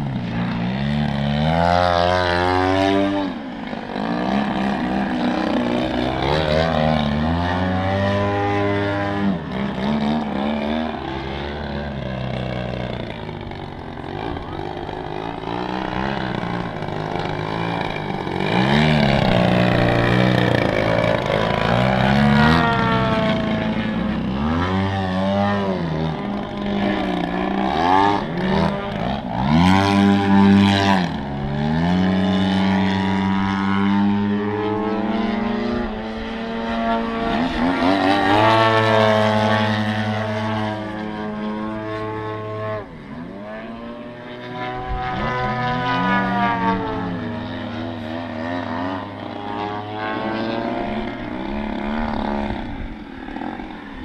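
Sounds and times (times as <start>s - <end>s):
model plane engines and propellers: 0.0s - 54.0s.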